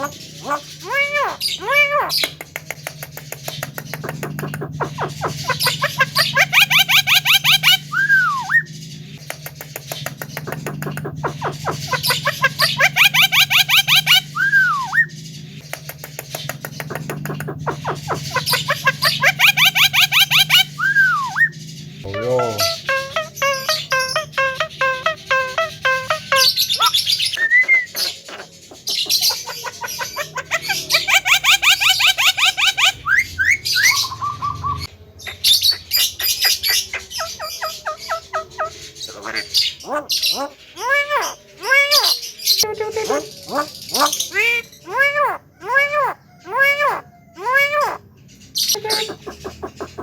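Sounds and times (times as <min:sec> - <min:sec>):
bird chattering song: 0:00.0 - 0:50.0.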